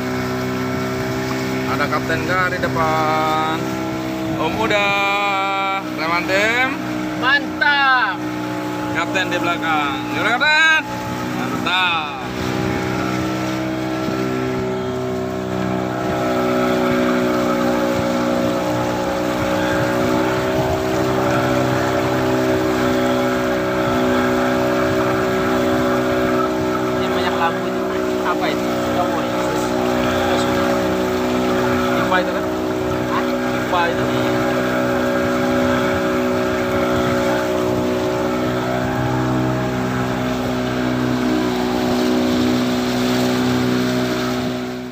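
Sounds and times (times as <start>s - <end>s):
outboard motor running: 0.0s - 44.9s
water rushing along a hull: 0.0s - 44.9s.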